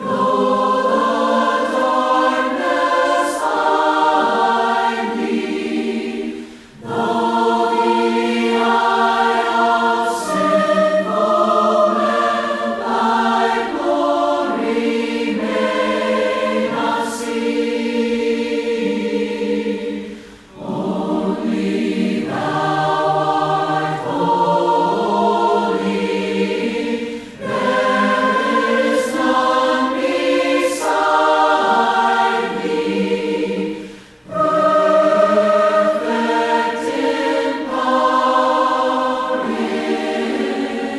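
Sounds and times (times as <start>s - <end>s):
group singing a hymn a cappella: 0.0s - 40.9s.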